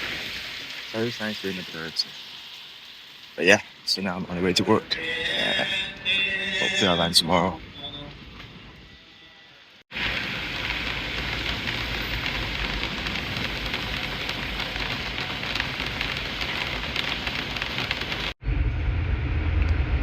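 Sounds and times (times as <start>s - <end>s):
heavy rain on hard surfaces: 0.0s - 8.8s, 9.6s - 18.4s.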